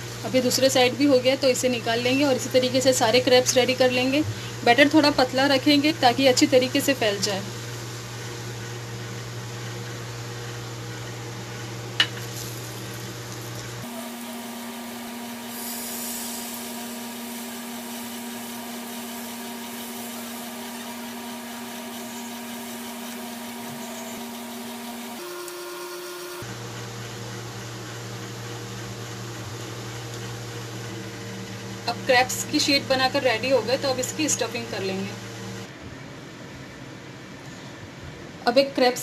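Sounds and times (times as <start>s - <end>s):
electrical hum: 0.0s - 37.6s.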